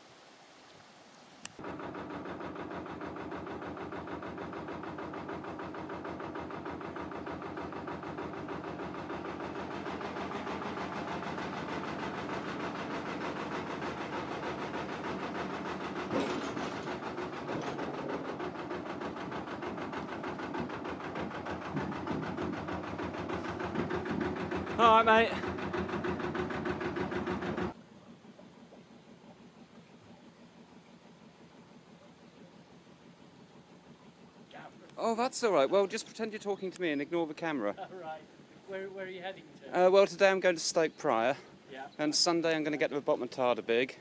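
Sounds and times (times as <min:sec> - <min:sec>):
boat diesel engine running: 0:01.6 - 0:44.0.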